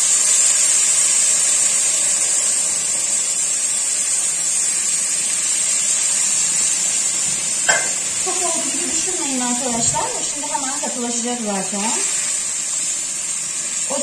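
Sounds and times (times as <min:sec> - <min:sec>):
syrup sizzling in a pan: 0:00.0 - 0:14.0.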